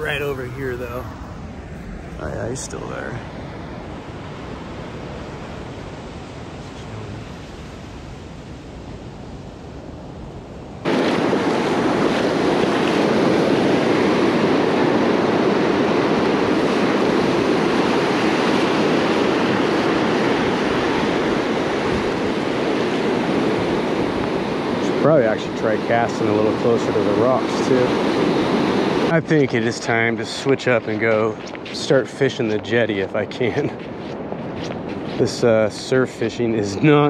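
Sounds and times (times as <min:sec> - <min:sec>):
waves breaking on beach: 0:00.0 - 0:37.0.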